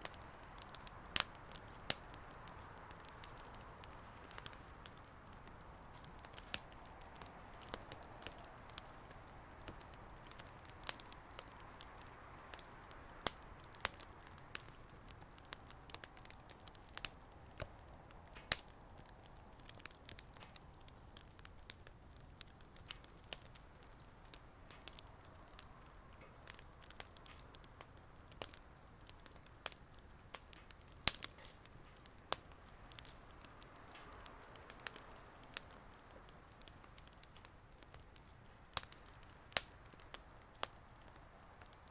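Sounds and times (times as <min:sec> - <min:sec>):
burning wood popping and snapping: 0:00.0 - 0:41.9.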